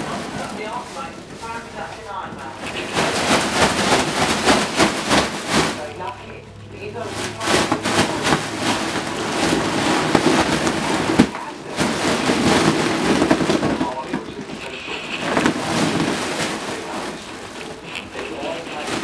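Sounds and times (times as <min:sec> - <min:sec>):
foil balloon crinkling: 0:00.0 - 0:19.0.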